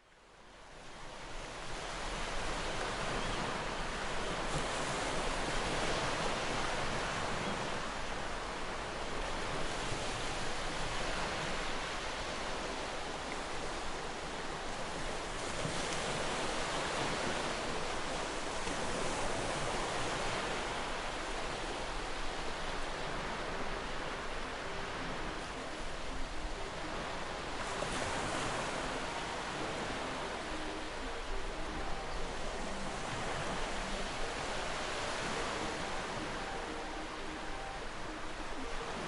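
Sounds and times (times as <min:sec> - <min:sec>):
wind: 0:00.0 - 0:39.0
sea waves breaking on shore: 0:00.4 - 0:39.0.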